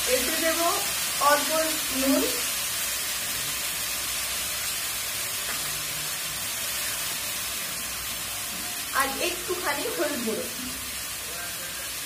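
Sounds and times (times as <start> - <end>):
greens sizzling in hot oil: 0.0 - 12.0.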